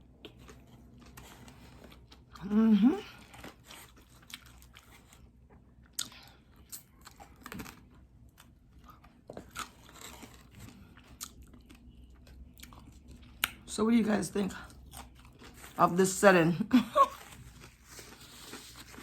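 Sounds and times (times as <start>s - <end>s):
person chewing crunchy food: 0.0s - 13.7s, 14.5s - 15.8s, 17.1s - 19.0s.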